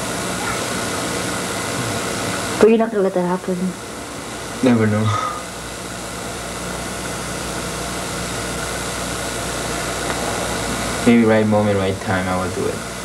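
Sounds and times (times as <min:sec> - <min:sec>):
low hum: 0:00.0 - 0:13.0
steady hiss: 0:00.0 - 0:13.0.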